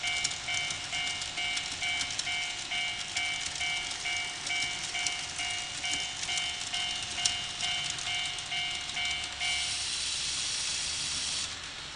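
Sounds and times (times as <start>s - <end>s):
level crossing warning chime: 0.0s - 9.8s.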